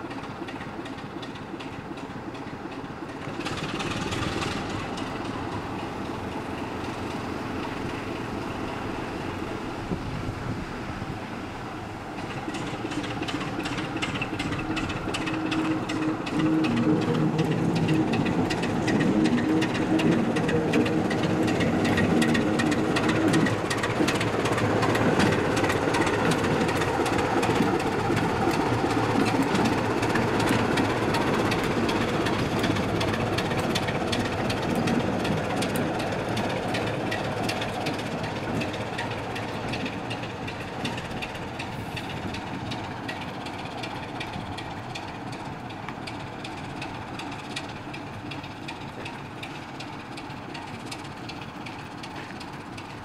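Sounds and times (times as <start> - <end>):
diesel locomotive engine drone: 0.0 - 53.0.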